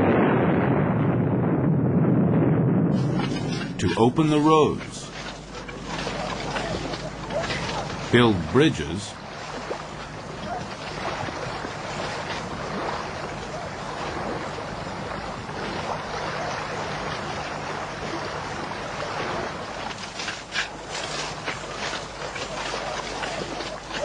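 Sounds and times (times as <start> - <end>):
river water rushing: 3.0 - 24.0.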